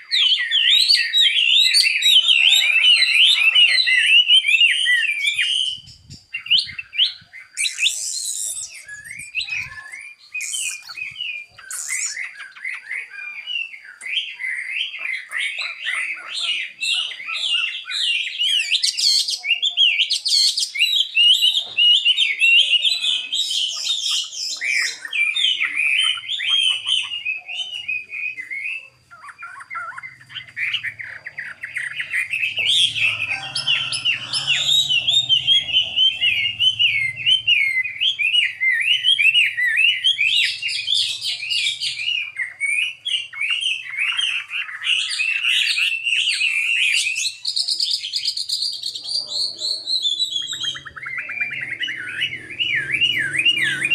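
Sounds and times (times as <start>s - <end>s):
bird singing warbled whistles: 0.0s - 53.9s.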